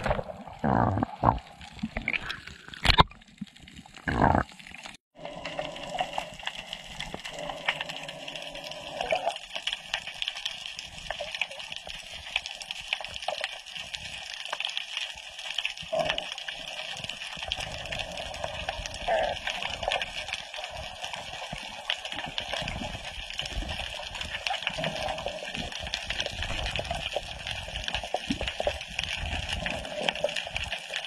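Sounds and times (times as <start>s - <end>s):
sea water splashing: 0.0s - 31.0s
underwater hiss with crackling clicks: 4.4s - 31.0s.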